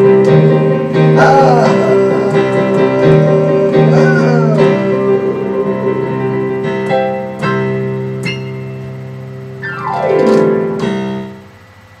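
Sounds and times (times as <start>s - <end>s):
digital piano chords: 0.0s - 12.0s.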